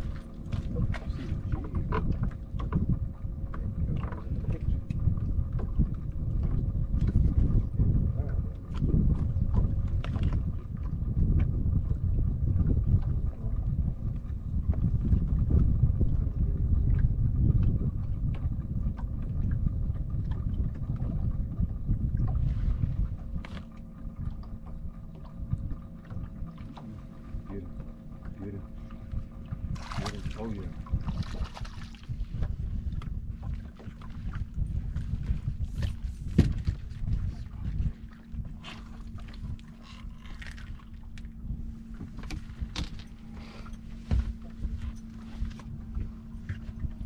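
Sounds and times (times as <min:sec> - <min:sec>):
faint steady hum: 0:00.0 - 0:47.0
wind rumbling on microphone: 0:00.0 - 0:47.0.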